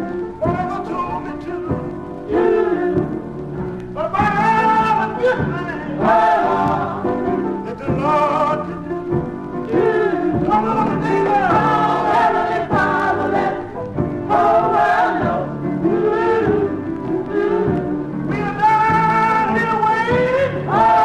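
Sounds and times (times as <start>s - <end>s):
gospel choir singing with band: 1.6s - 21.0s.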